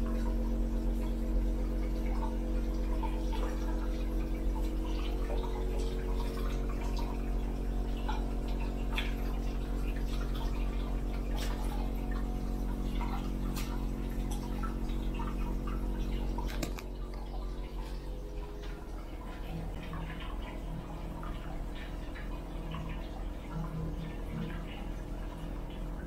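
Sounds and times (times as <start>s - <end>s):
steady low hum: 0.0s - 26.0s
water drips and splashes: 0.0s - 26.0s
water running into bathtub: 0.0s - 26.0s.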